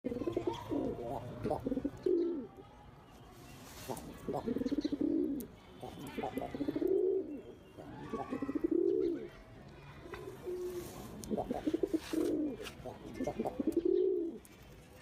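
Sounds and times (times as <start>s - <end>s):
pigeon cooing: 0.1s - 2.5s, 3.9s - 9.3s, 10.2s - 14.4s.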